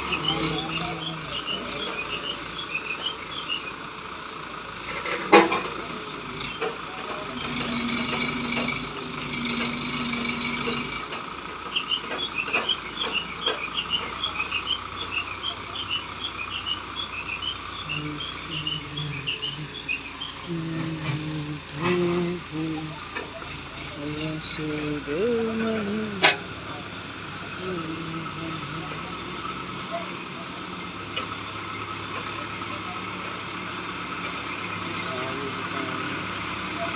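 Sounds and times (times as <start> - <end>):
mobile crane running: 0.0 - 36.9.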